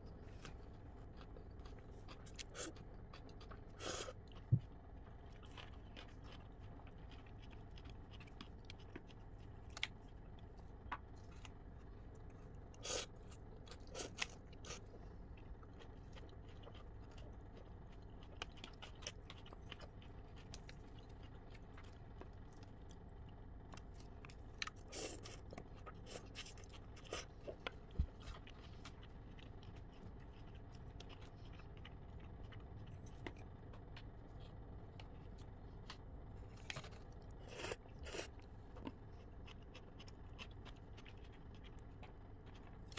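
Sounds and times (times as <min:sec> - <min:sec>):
low steady hum: 0:00.0 - 0:42.9
person chewing noodles: 0:00.1 - 0:42.9.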